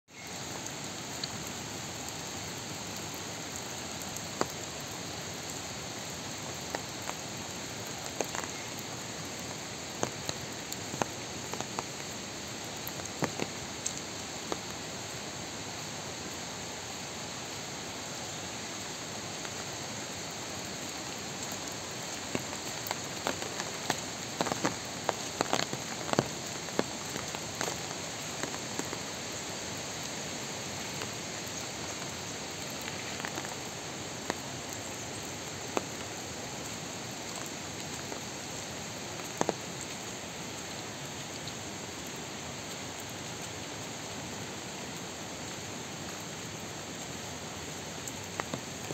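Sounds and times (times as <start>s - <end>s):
rain on foliage: 0.1s - 48.9s.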